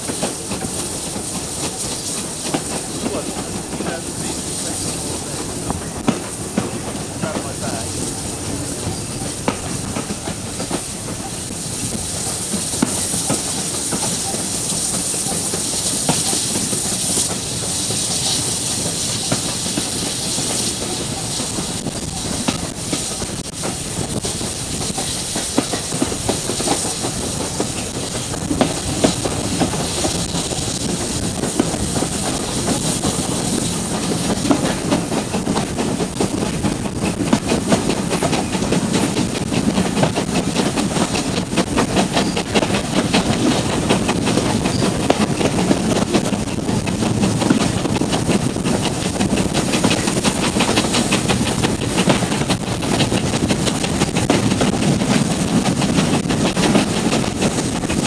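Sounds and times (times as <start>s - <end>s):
wheels clattering on rails: 0.0s - 58.0s.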